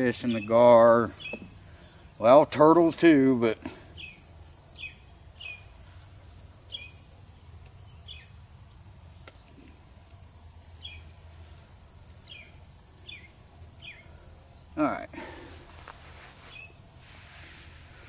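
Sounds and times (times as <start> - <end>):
high insect buzz: 3.2 - 18.0.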